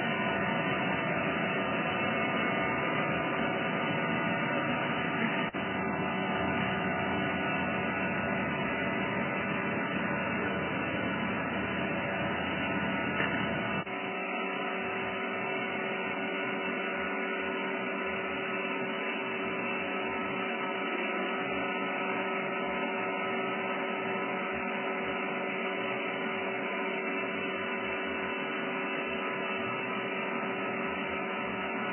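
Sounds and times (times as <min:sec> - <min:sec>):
grinding machine humming: 0:00.0 - 0:31.9.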